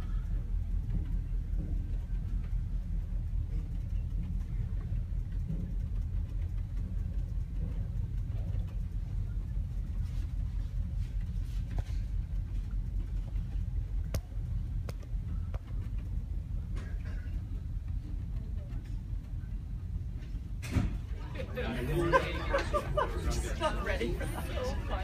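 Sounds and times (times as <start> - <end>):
boat engines low rumble: 0.0 - 25.0.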